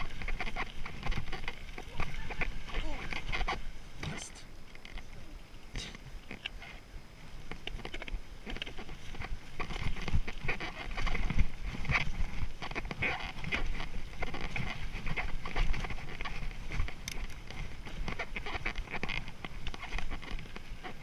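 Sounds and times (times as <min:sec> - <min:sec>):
mountain bike rattling on trail: 0:00.0 - 0:03.7, 0:07.4 - 0:21.0.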